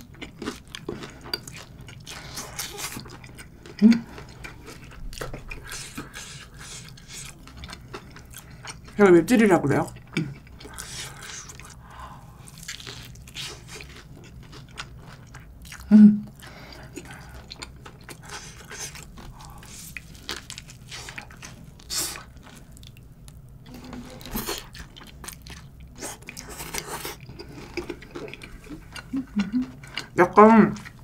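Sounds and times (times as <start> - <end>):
crunchy chewing of fried food: 0.0 - 9.0, 9.7 - 31.0.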